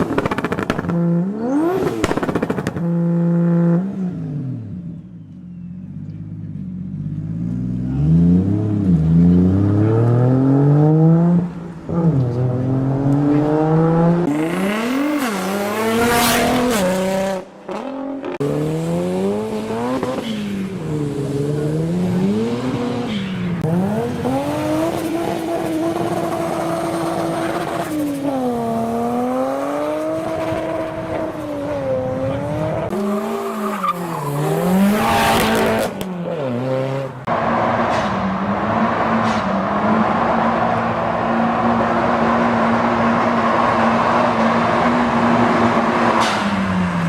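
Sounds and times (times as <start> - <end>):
car engine revving: 6.0 - 47.0.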